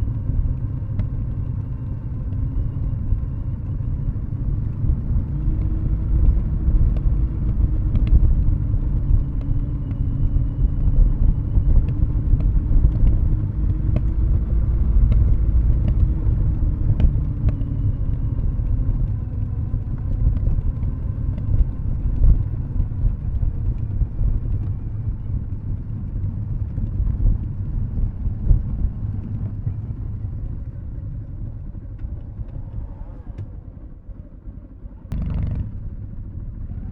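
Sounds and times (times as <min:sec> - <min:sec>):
motorcycle exhaust rumble: 0:00.0 - 0:36.9.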